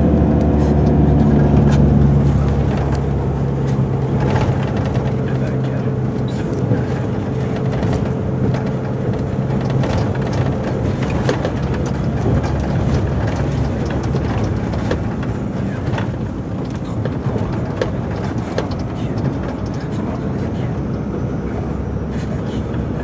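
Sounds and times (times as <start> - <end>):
diesel truck engine droning: 0.0 - 23.0
short clicks and rattles: 0.4 - 21.0.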